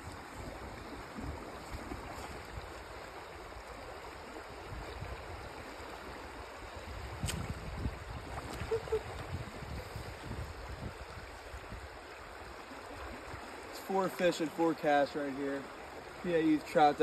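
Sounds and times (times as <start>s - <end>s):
creek running over stones: 0.0s - 17.0s.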